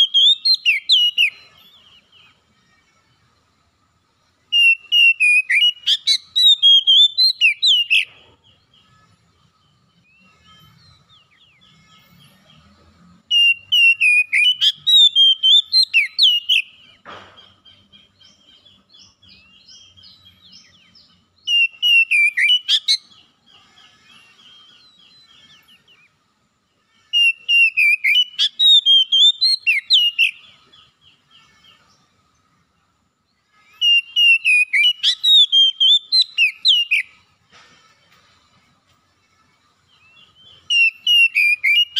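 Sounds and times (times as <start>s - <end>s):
songbird singing rapid notes: 0.0s - 2.4s, 4.5s - 26.2s, 27.2s - 37.4s, 39.2s - 41.9s.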